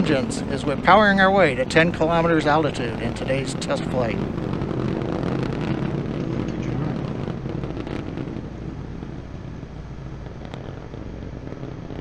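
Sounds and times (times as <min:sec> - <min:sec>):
rocket engines roaring: 0:00.0 - 0:12.0.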